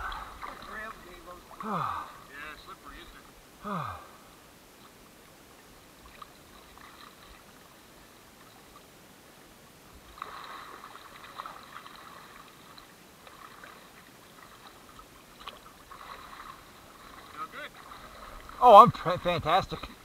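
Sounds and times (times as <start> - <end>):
water lapping and splashing: 0.0 - 20.0.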